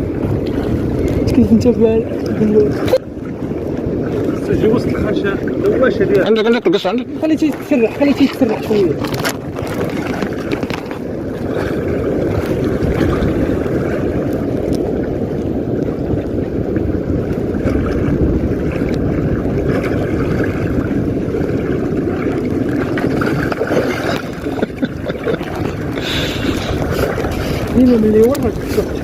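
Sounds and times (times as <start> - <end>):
sea water moving: 0.0 - 29.0
wind rumbling on microphone: 0.0 - 29.0.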